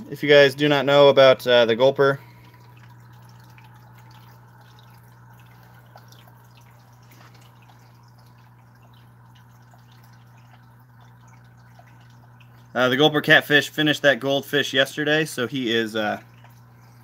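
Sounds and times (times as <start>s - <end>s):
low electrical hum: 0.0s - 17.0s
water dripping and trickling: 0.0s - 17.0s.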